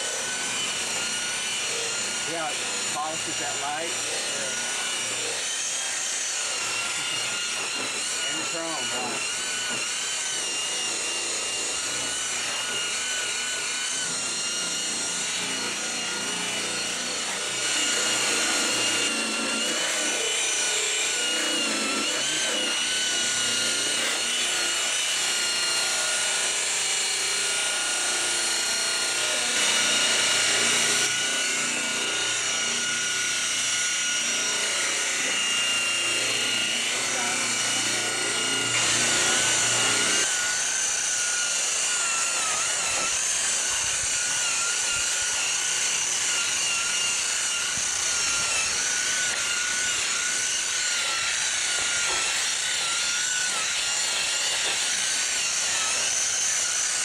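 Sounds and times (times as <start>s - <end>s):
electric polisher motor whine: 0.0s - 57.0s.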